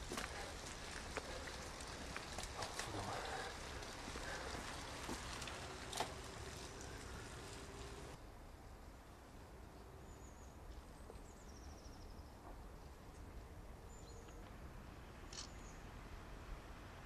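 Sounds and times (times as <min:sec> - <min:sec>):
faint birdsong: 0:00.0 - 0:08.2, 0:08.9 - 0:16.0.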